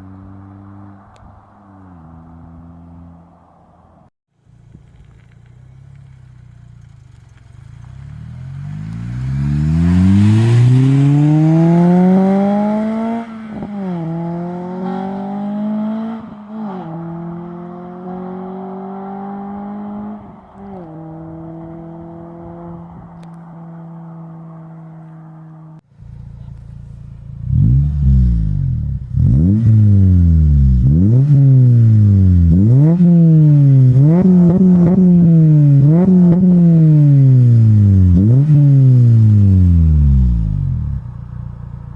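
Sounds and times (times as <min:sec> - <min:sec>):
car engine revving: 0:00.0 - 0:03.6, 0:04.5 - 0:41.9
car engine accelerating and shifting: 0:00.0 - 0:41.9.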